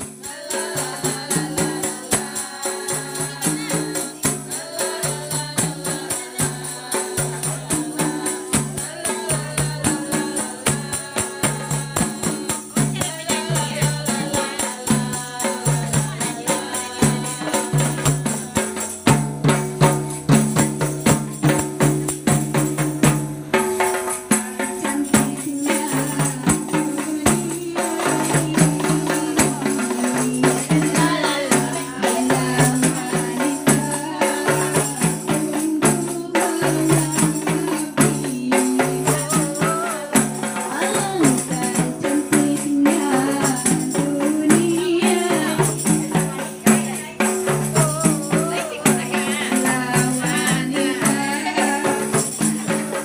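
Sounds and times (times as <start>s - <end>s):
woman singing: 0.0s - 22.5s, 23.8s - 53.0s
frame drums beaten by hand: 0.0s - 53.0s
tambourines jingling: 0.0s - 53.0s.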